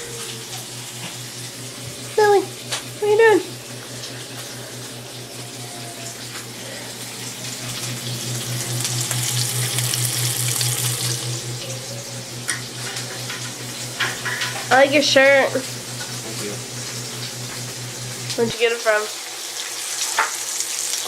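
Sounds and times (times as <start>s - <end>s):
low steady hum: 0.0s - 18.9s
food sizzling in a frying pan: 0.2s - 21.0s.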